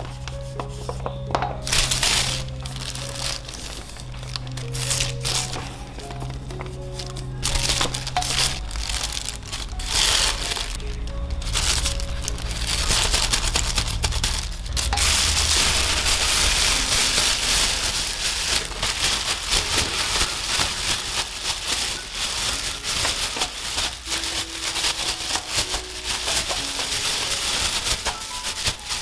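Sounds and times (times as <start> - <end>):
plastic bag crinkling: 0.0 - 29.0
potato sticks tumbling in bag: 1.6 - 29.0.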